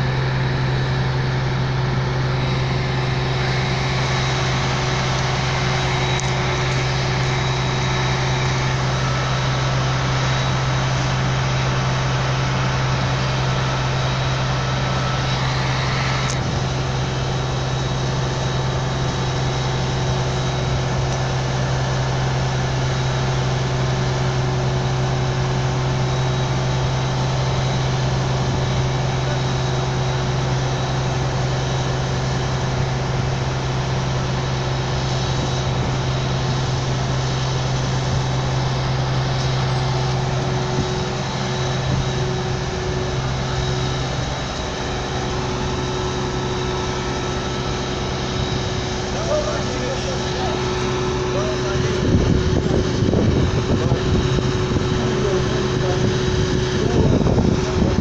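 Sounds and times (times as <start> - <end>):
locomotives idling: 0.0 - 58.0
steady higher tone: 0.0 - 58.0.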